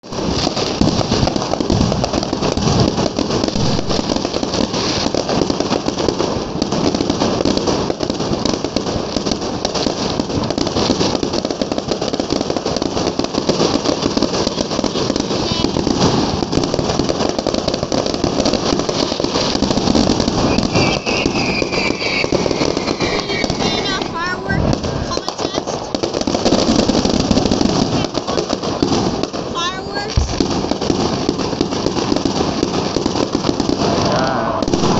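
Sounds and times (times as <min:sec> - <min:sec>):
fireworks and firecrackers banging: 0:00.0 - 0:34.9.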